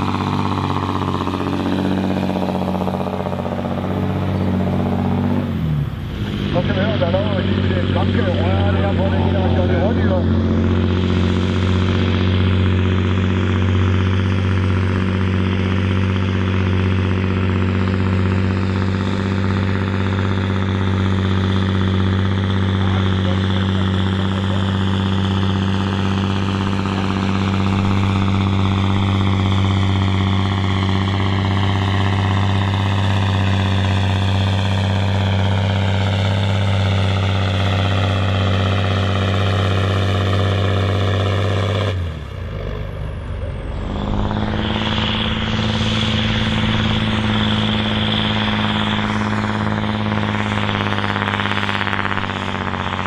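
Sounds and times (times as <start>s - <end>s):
tractor diesel engine running hard: 0.0s - 53.0s.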